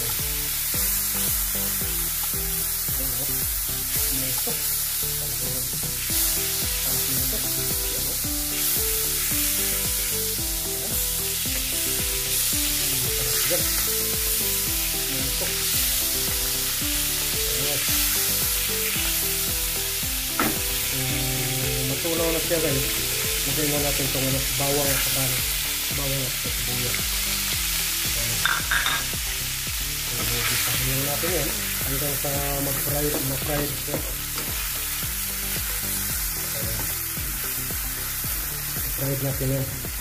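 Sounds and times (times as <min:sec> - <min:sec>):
background music: 0:00.0 - 0:40.0
margarine sizzling in a wok: 0:00.0 - 0:40.0.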